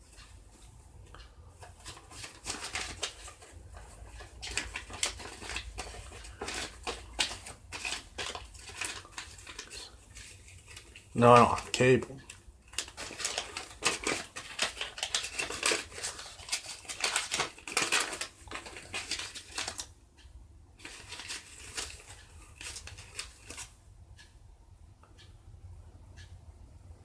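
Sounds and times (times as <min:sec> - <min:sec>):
crackling and clicking: 0:00.0 - 0:24.3.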